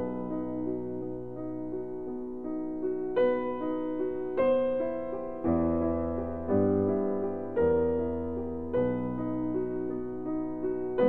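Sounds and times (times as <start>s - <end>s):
gentle piano chords: 0.0s - 11.0s.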